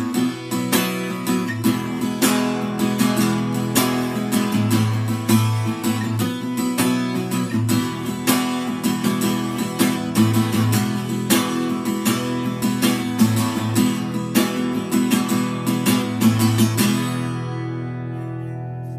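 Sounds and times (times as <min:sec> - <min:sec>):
acoustic guitar strumming: 0:00.0 - 0:18.9.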